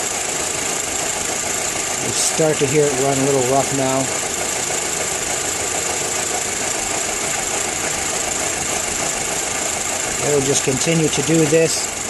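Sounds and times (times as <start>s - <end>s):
car engine idling rough: 0.0s - 12.0s.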